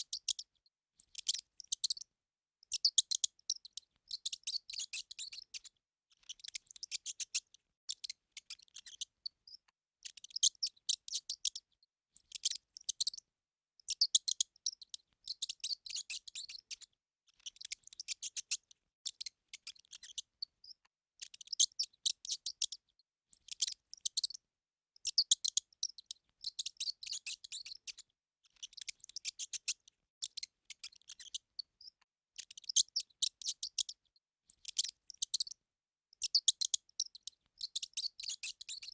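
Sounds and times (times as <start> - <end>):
hamster squeaking: 0.0 - 13.2, 13.8 - 24.4, 25.0 - 35.6, 36.2 - 38.9.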